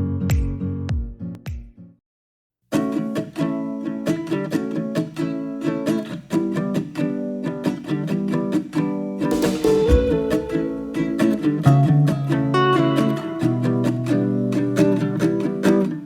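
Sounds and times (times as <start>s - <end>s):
plucked acoustic guitar music: 2.7s - 16.0s.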